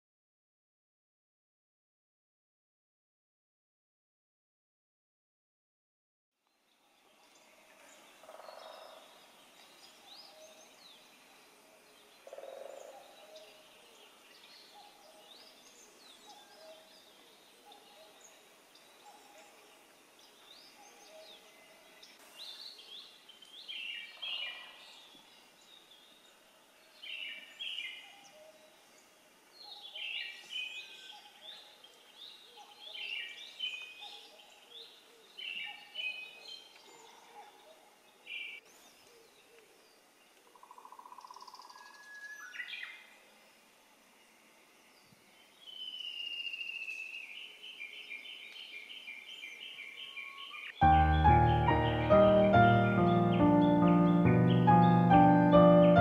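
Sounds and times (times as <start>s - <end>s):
songbird phrases: 6.5s - 43.3s, 44.8s - 56.0s.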